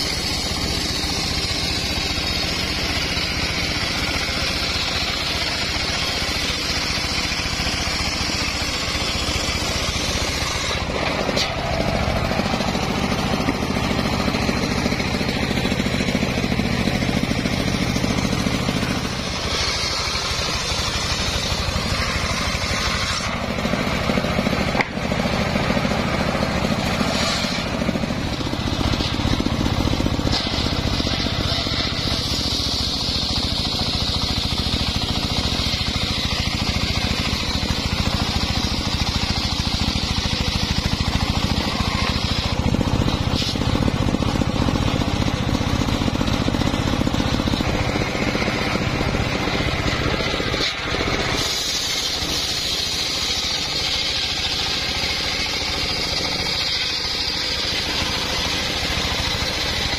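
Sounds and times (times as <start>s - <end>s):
circular saw cutting logs: 0.0s - 59.9s.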